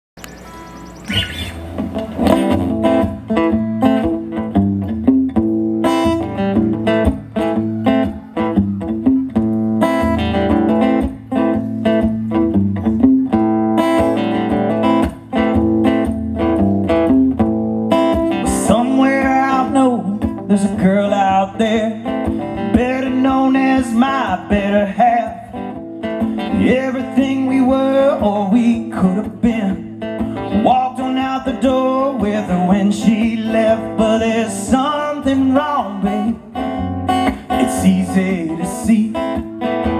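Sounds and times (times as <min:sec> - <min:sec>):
acoustic guitar picking: 0:00.2 - 0:39.9
sliding lead guitar line: 0:00.2 - 0:39.9.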